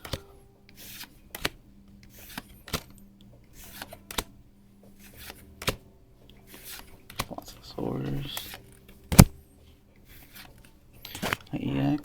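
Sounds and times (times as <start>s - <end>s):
card edges snapping: 0.0s - 5.8s, 6.4s - 9.4s, 10.1s - 11.6s
cards swishing against each other: 0.0s - 9.4s, 10.0s - 11.8s.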